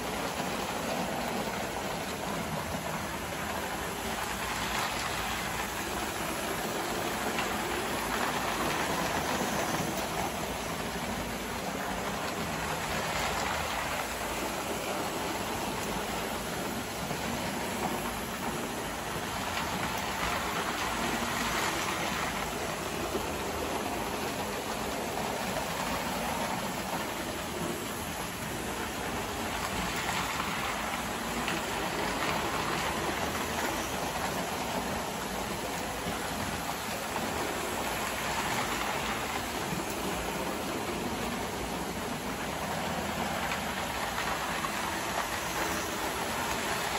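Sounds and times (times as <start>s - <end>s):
toy trains rumbling and rattling: 0.0s - 46.9s.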